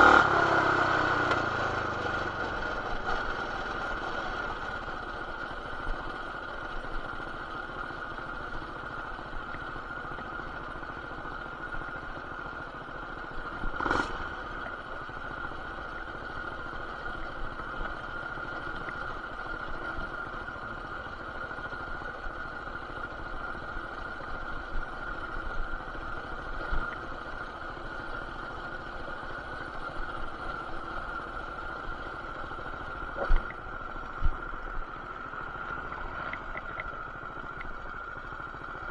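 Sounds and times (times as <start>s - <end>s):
muffled motorbike engine running: 0.0s - 38.9s.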